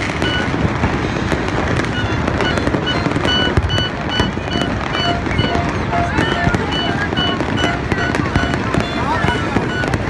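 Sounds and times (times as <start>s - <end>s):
fireworks cracking and banging: 0.0s - 10.0s
short high beeps: 0.1s - 0.6s, 1.8s - 10.0s.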